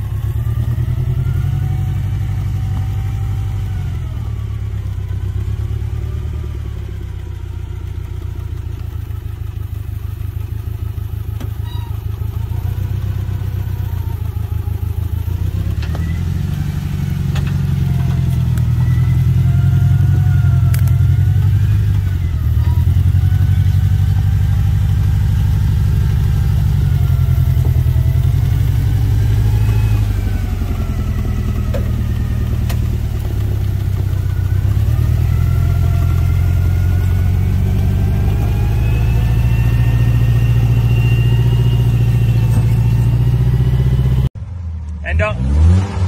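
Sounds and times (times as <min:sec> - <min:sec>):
truck engine under load: 0:00.0 - 0:46.0.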